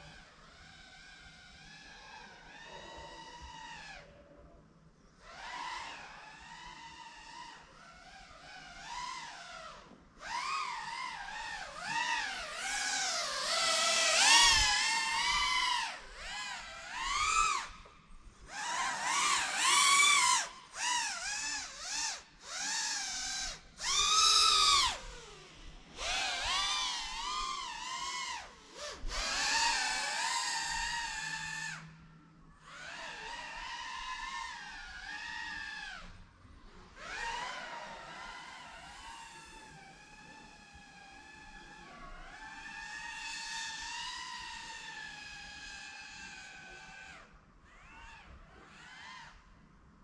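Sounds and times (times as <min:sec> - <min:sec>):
drone motors whining: 0:00.0 - 0:49.7.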